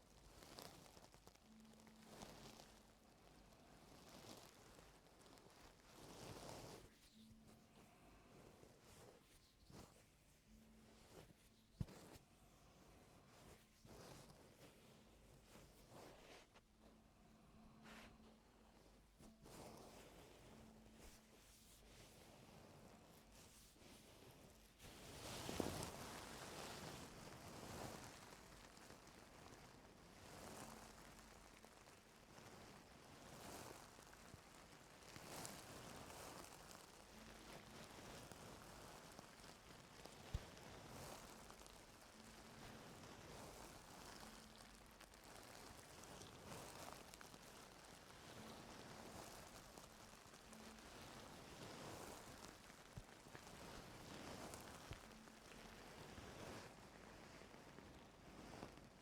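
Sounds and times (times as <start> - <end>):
ear cleaning crackling rustles: 0.0 - 59.0.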